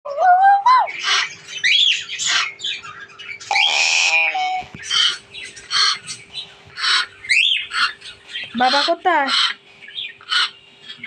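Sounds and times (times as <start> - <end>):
myna bird squawking and whistling: 0.5 - 11.0.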